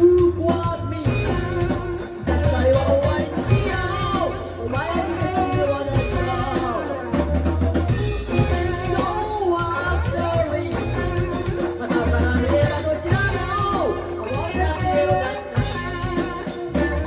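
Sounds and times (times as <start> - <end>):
deep bass notes: 0.0 - 17.0
drums: 0.0 - 17.0
person singing: 0.0 - 17.0.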